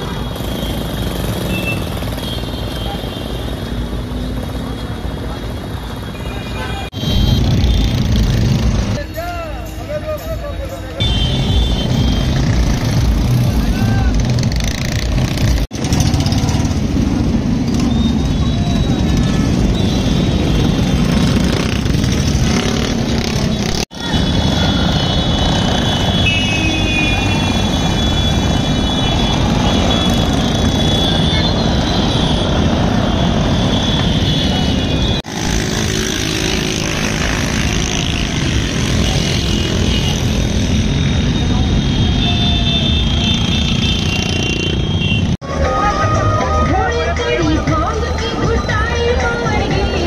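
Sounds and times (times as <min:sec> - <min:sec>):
vehicles and motorbikes running: 0:00.0 - 0:50.0.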